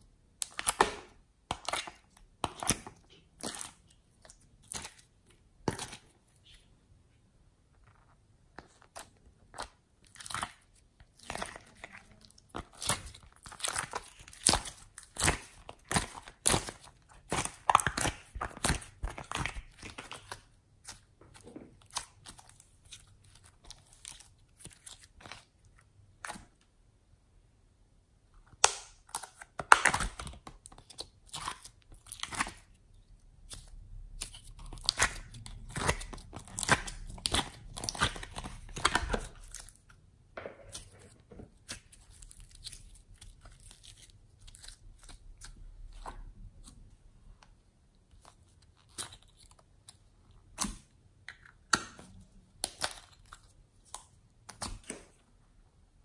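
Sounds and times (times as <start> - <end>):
sticky slime squishing and popping: 0.3 - 6.7, 8.2 - 26.6, 28.4 - 55.2.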